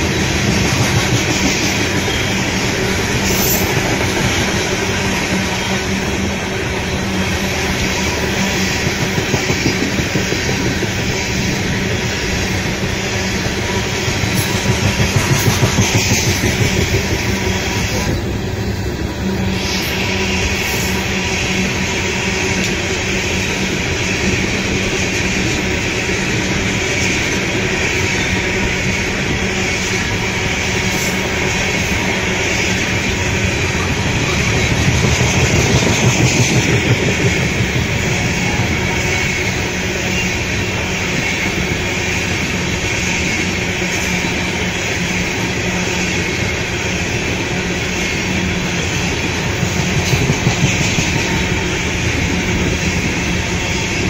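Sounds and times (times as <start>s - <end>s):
freight train clickety-clack: 0.0s - 54.0s.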